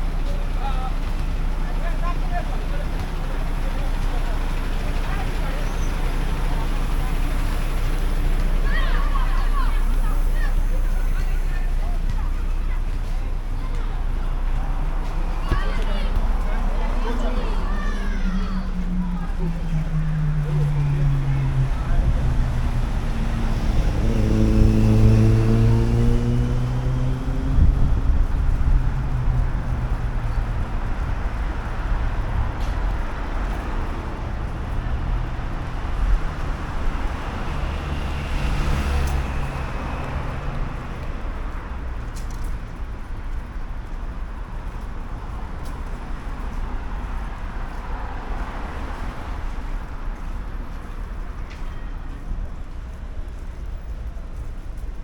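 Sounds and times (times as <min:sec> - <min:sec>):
motor vehicles passing: 0:00.0 - 0:55.0.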